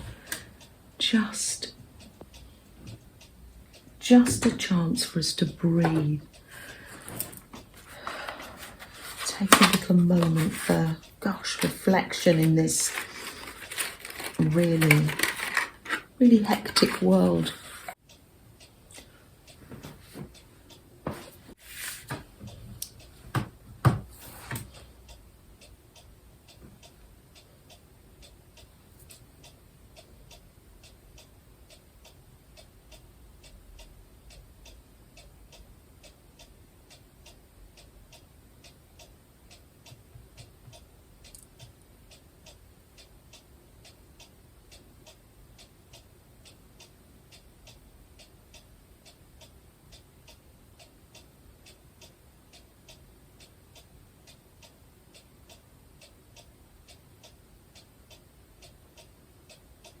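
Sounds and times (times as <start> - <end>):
clock ticking faintly: 0.0 - 60.0.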